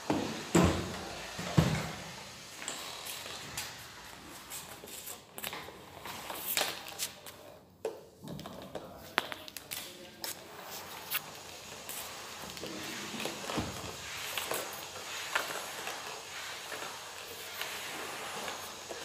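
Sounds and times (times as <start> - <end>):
mop head scraping tiled floor: 0.0 - 7.6, 8.4 - 19.0.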